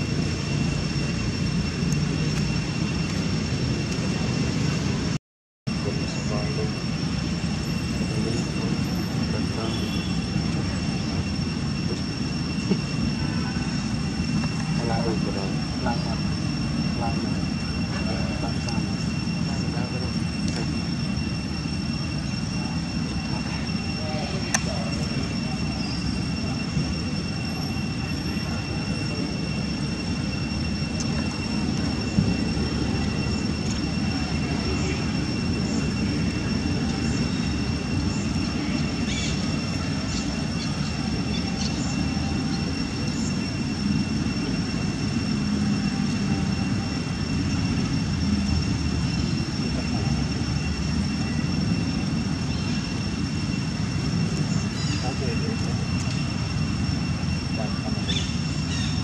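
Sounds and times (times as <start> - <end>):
thin high whines: 0.0 - 59.0.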